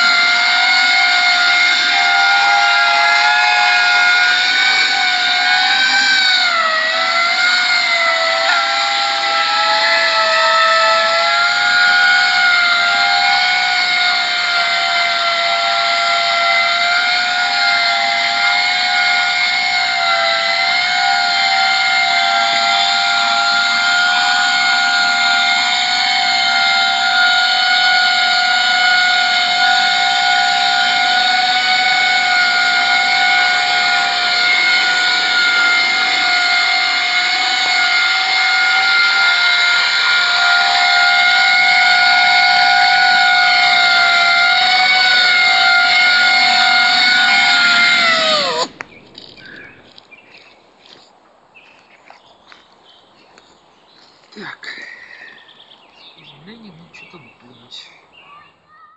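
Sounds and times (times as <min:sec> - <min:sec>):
propeller whine: 0:00.0 - 0:51.0.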